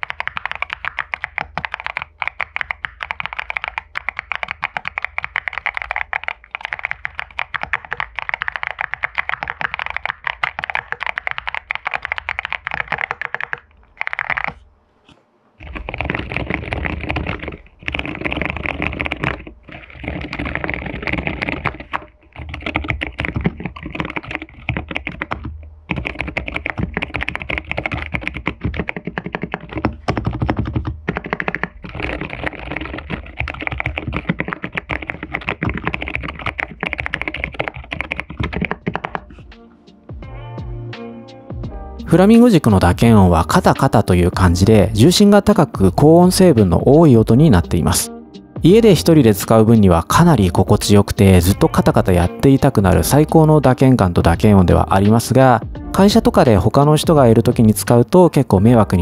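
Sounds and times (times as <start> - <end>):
fast typing on mechanical keyboard: 0.0 - 14.6, 15.6 - 39.6, 42.1 - 48.1, 48.7 - 59.0.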